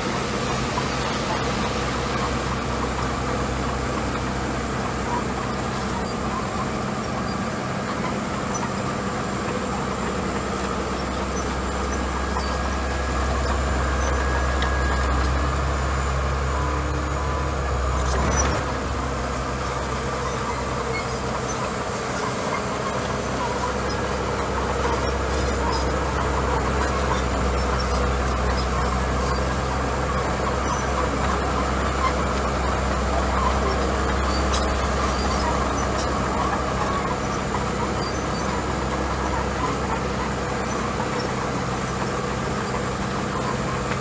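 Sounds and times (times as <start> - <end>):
bulldozer diesel engine running: 0.0 - 44.0.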